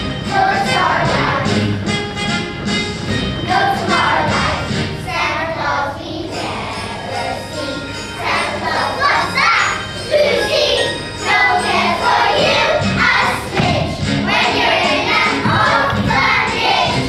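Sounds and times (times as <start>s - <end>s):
children singing: 0.0s - 1.8s, 3.4s - 17.0s
music backing track: 0.0s - 17.0s.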